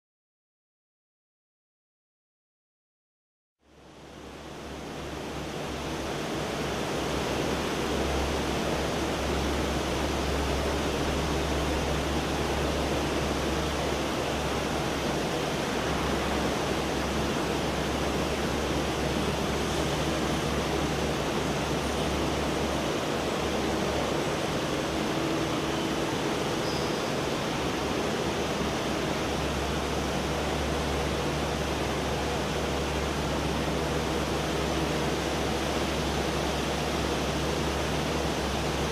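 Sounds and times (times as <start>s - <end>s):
low machine hum: 3.6s - 38.9s.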